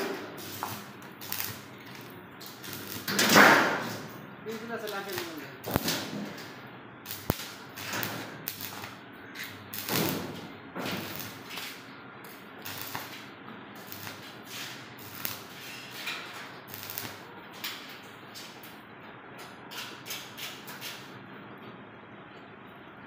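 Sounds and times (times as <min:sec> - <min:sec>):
welding arc crackling: 0:00.0 - 0:18.7.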